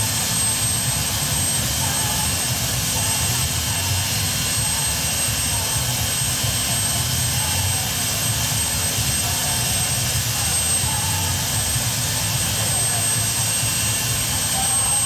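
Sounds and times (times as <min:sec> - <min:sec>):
helicopter turbine whine: 0:00.0 - 0:15.0.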